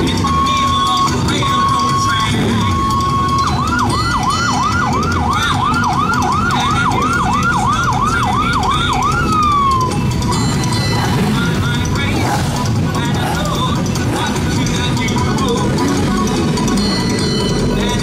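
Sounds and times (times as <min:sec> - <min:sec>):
electronic siren yelping: 0:00.0 - 0:17.7
motorcycle engines running: 0:00.0 - 0:18.0.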